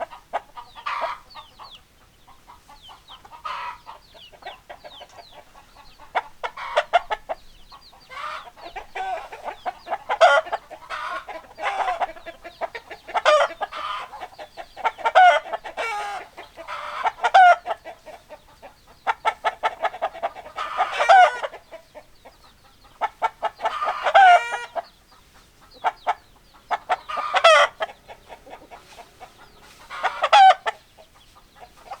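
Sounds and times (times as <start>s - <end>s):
chickens clucking: 0.0s - 32.0s
drawn-out chicken calls: 0.0s - 32.0s.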